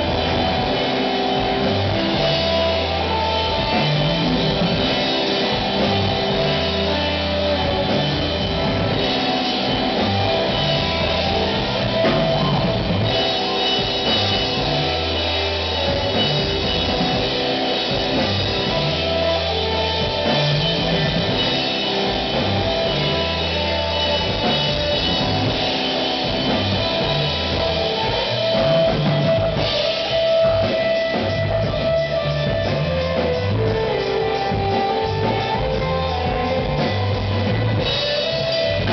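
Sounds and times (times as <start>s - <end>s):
drum kit beat: 0.0s - 38.9s
electric guitar: 0.0s - 38.9s.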